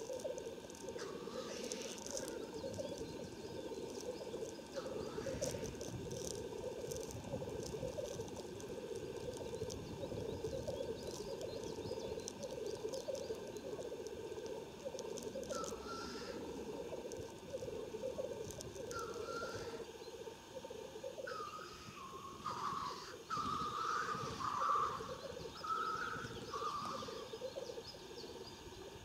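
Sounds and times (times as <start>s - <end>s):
grouse hissing call: 0.0s - 27.8s
grouse bubbling cooing song: 0.0s - 29.0s.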